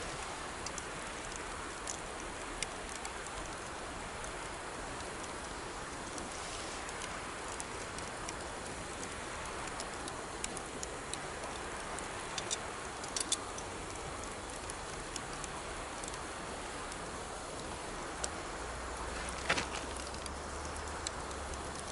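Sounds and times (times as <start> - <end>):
campfire crackling: 0.0 - 21.9.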